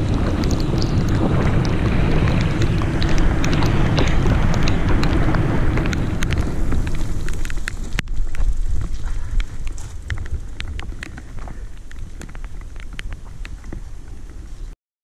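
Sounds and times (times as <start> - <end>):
sharp clicks and rattles: 0.0 - 14.3
tyre rumble on asphalt: 0.0 - 14.7
wind buffeting microphone: 0.0 - 14.8.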